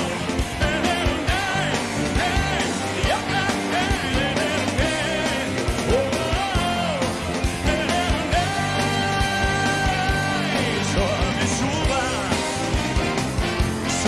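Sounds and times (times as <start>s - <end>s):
male lead vocal: 0.0s - 13.1s, 13.7s - 14.0s
drums keeping steady beat: 0.0s - 14.0s.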